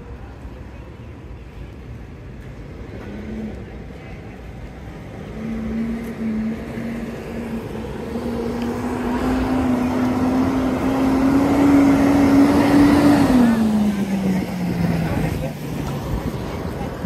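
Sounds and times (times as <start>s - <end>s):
street traffic noise: 0.0s - 17.0s
vehicle approaching: 1.9s - 17.0s.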